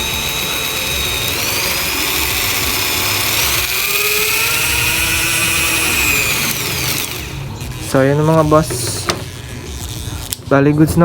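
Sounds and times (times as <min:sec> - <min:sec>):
rotary tool motor whine: 0:00.0 - 0:10.6.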